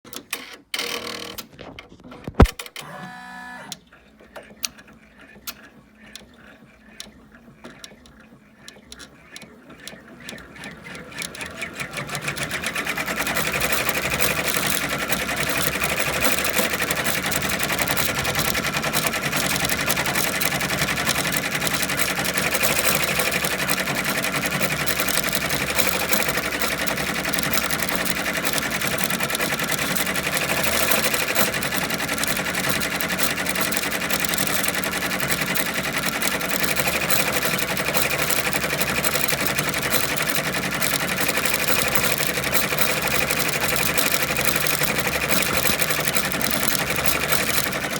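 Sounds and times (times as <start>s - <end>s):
embroidery machine stitching: 2.3s - 47.9s.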